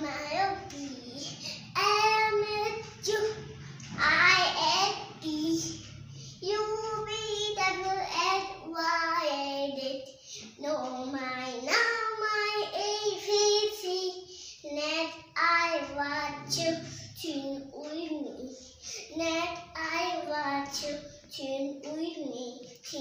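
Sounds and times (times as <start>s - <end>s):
girl singing: 0.0s - 23.0s.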